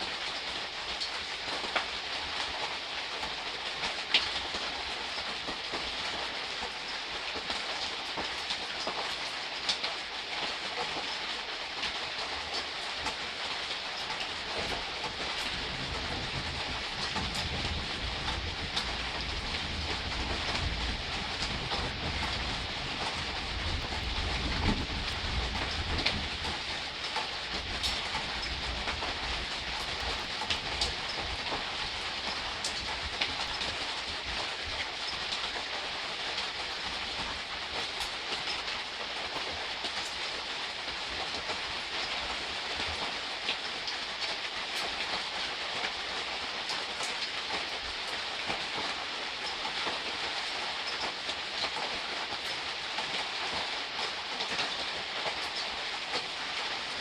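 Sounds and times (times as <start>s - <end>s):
gentle rain hiss: 0.0s - 57.0s
raindrop ticks: 0.0s - 57.0s.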